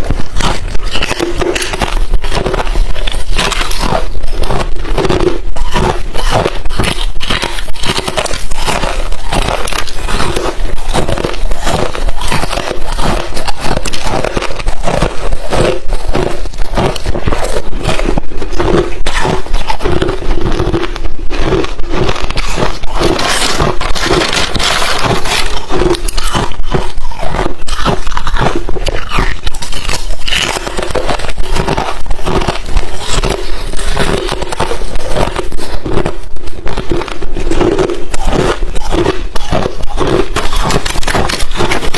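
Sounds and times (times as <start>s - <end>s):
chewing crunchy ice: 0.0s - 41.9s.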